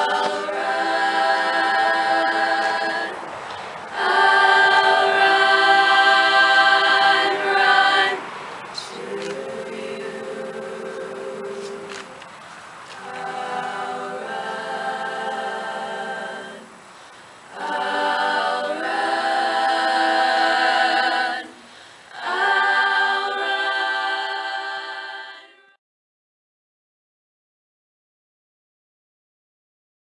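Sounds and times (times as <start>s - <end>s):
girls' choir singing a cappella: 0.0s - 12.3s, 12.9s - 25.8s.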